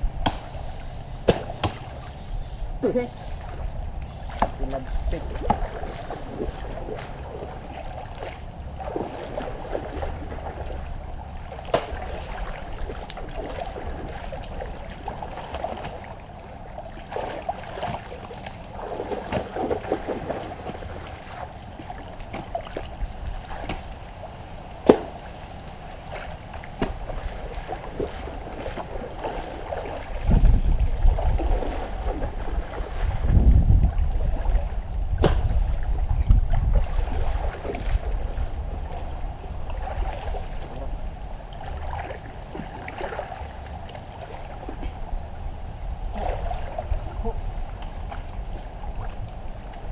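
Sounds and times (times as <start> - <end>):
muddy water splashing: 0.0 - 49.9
wind rumbling on microphone: 0.0 - 49.9.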